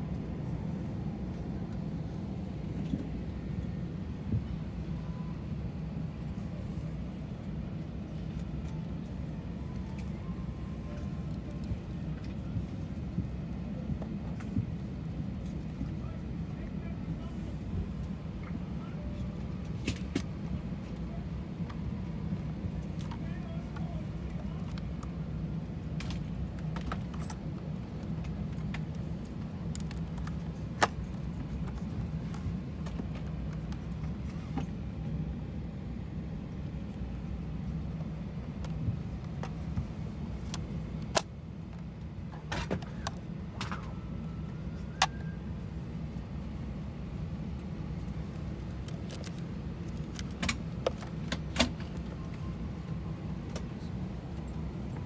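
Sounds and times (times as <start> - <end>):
airliner cabin hum: 0.0 - 55.0.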